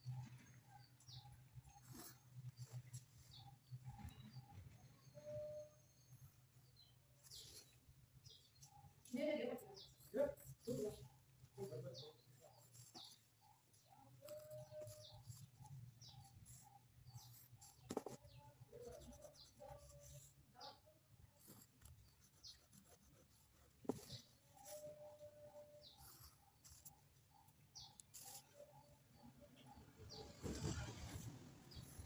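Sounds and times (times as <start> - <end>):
faint high chirps: 0.0 - 10.9, 11.6 - 32.0
pencil strokes on paper: 0.0 - 32.0.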